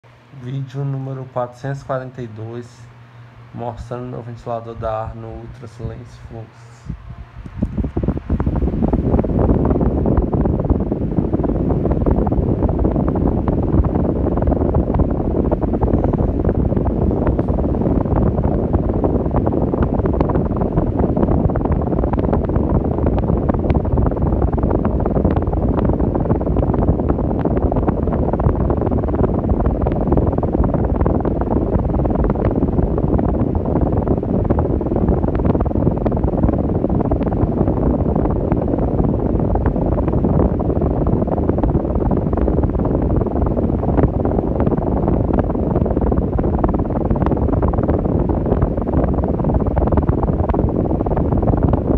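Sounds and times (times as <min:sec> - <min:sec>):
electric fan airflow rushing: 0:00.0 - 0:51.9.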